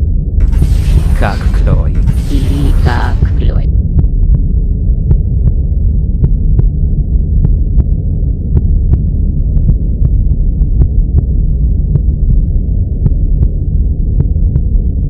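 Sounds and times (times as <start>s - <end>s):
loud muffled low rumble: 0.0s - 15.0s.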